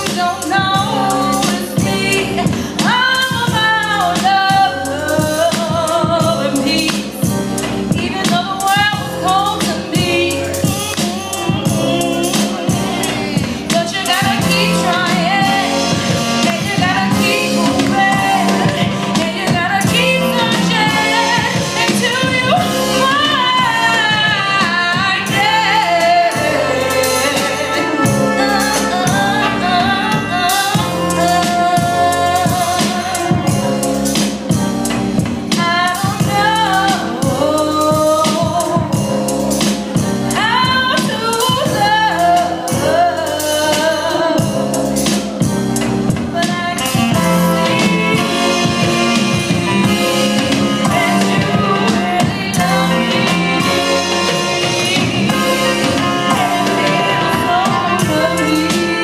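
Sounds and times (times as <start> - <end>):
instrumental accompaniment with beat: 0.0 - 59.0
woman singing into a microphone: 0.0 - 59.0.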